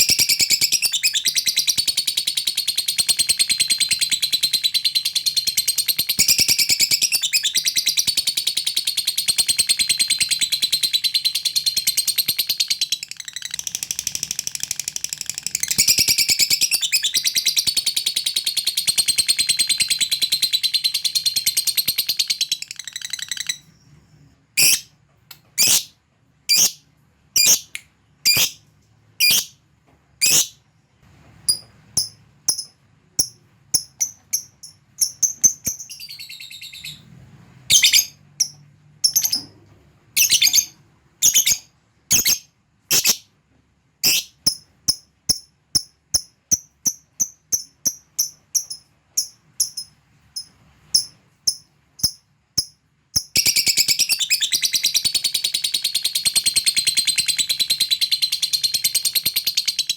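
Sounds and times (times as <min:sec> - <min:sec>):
lovebird chirping and trilling: 0:00.0 - 0:23.8, 0:24.6 - 0:24.9, 0:25.6 - 0:26.8, 0:27.4 - 0:28.6, 0:29.2 - 0:29.6, 0:30.2 - 0:30.6, 0:31.5 - 0:37.1, 0:37.7 - 0:39.5, 0:40.2 - 0:43.3, 0:44.0 - 0:59.9.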